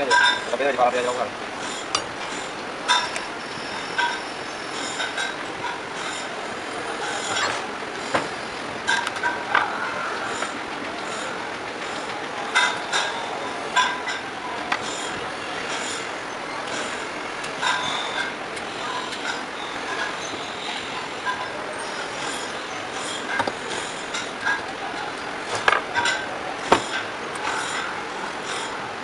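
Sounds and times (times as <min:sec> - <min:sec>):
steady background noise: 0:00.0 - 0:29.0.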